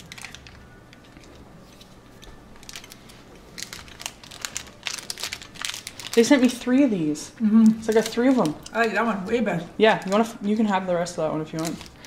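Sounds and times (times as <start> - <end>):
plastic wrapper crackling: 0.0 - 12.0.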